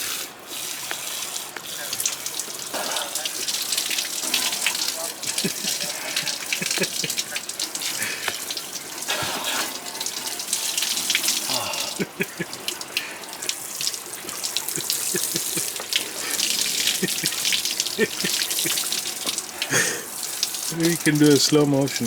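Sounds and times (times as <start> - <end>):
seawater splashing and lapping: 0.0 - 22.0.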